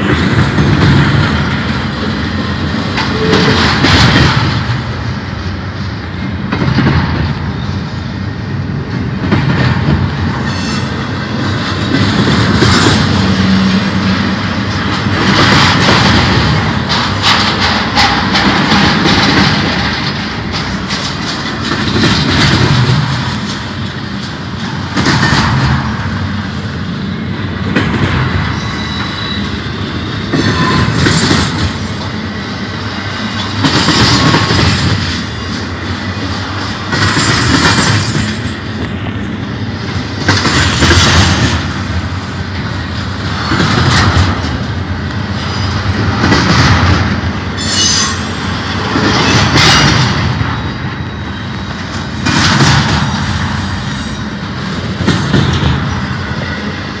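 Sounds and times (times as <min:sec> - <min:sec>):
train wheels clattering on rail: 0:00.0 - 0:57.0.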